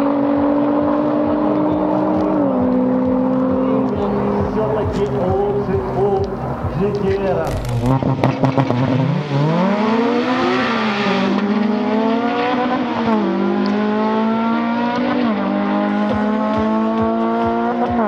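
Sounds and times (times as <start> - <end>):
sports cars accelerating: 0.0 - 18.0.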